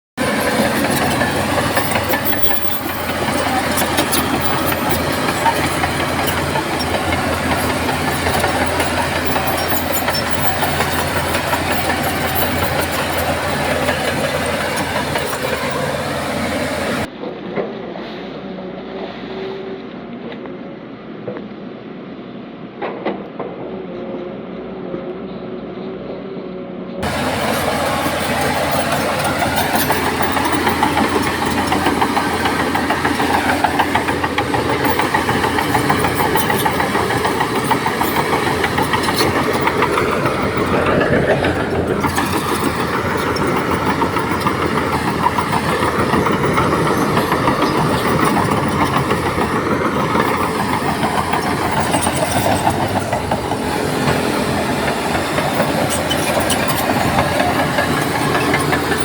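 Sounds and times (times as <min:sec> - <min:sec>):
diesel construction machinery running: 0:00.0 - 0:17.1, 0:27.0 - 0:59.0
dense rattling clatter: 0:00.2 - 0:17.1, 0:27.0 - 0:59.0.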